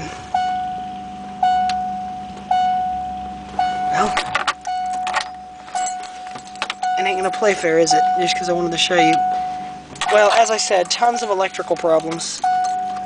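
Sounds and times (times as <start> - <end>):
car warning chime dinging: 0.0 - 13.0.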